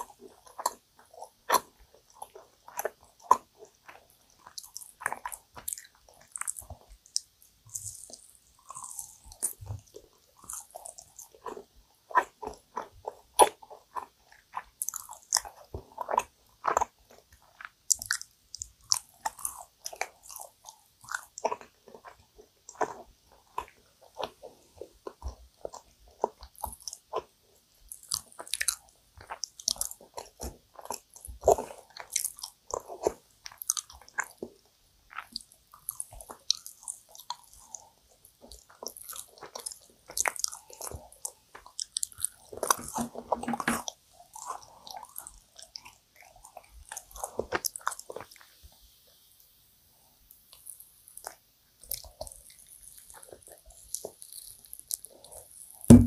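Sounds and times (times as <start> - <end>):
chewing sticky cookies: 0.0 - 56.0.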